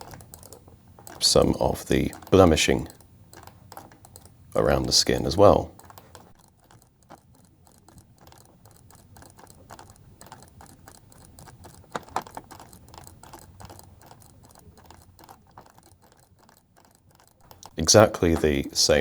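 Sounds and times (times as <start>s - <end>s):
computer mouse clicking and tapping: 0.0s - 19.0s.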